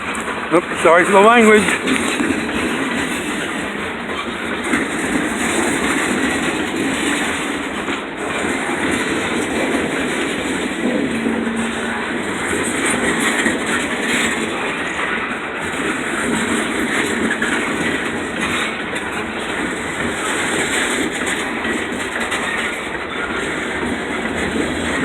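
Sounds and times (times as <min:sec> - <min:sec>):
freight train wheels on rails: 0:00.0 - 0:25.0.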